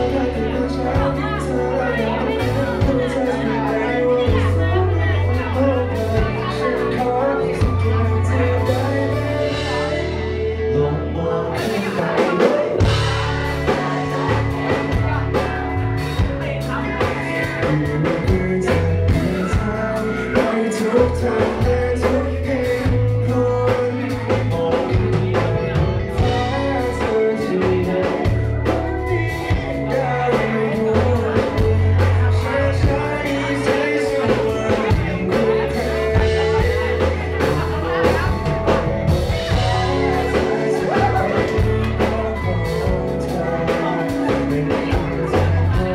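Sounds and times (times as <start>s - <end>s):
drums: 0.0s - 45.9s
guitar: 0.0s - 45.9s
lead singer singing: 0.0s - 45.9s
live rock band playing: 0.0s - 45.9s.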